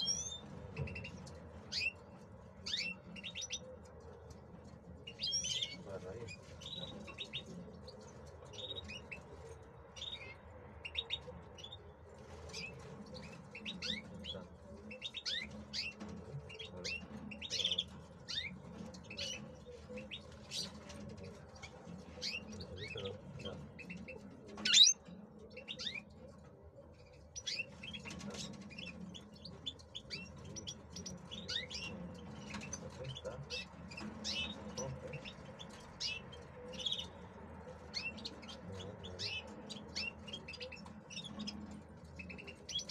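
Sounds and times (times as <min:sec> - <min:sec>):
bird twittering and trilling: 0:00.0 - 0:42.9.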